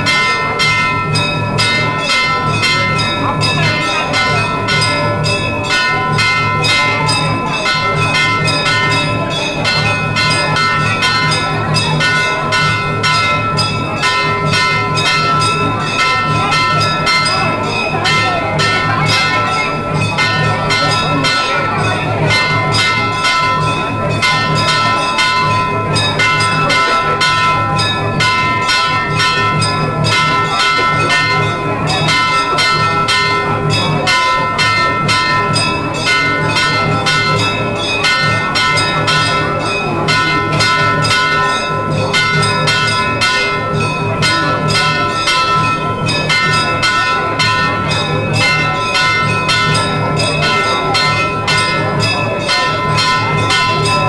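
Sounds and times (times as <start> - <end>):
temple bells clanging rapidly: 0.0 - 54.0.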